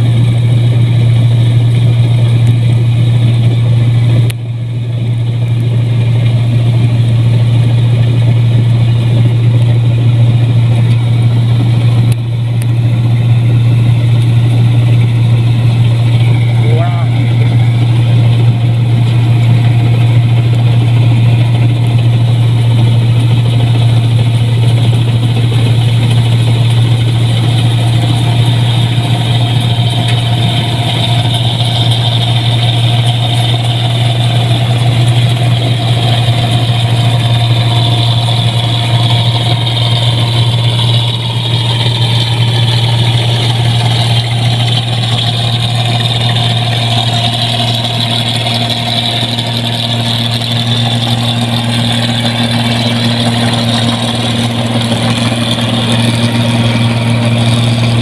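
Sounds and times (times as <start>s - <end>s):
harvester engine hum: 0.0s - 58.0s
high machine whine: 0.0s - 58.0s.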